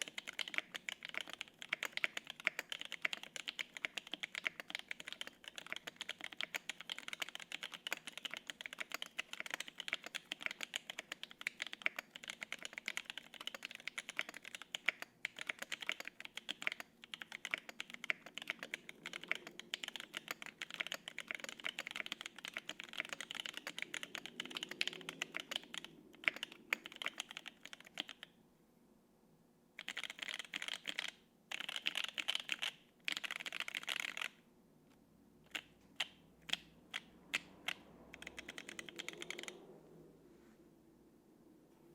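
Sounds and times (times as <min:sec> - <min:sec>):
fast mechanical keyboard typing: 0:00.0 - 0:28.3, 0:29.8 - 0:34.4, 0:35.5 - 0:39.6.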